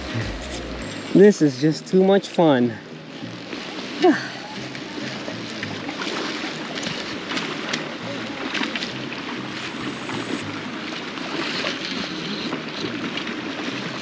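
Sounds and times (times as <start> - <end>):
river water rushing: 0.0 - 14.0
small water splashes: 1.7 - 14.0.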